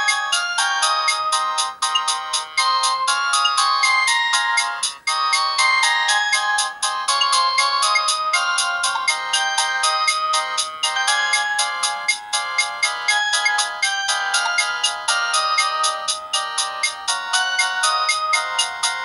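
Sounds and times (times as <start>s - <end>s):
electronic phone ringtone melody: 0.0s - 19.0s.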